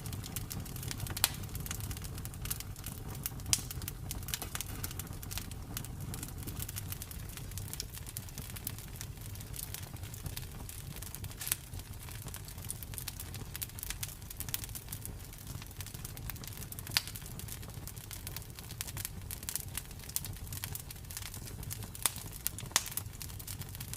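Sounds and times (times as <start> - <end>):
campfire flames rumbling: 0.0 - 23.9
fire crackling: 0.0 - 23.9.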